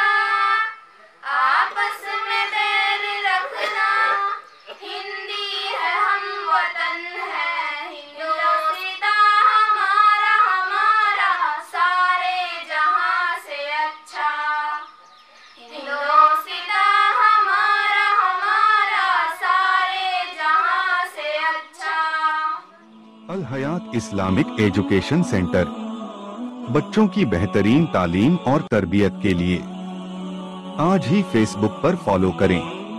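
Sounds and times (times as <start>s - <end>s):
girls singing into a microphone: 0.0s - 14.9s, 15.6s - 32.9s.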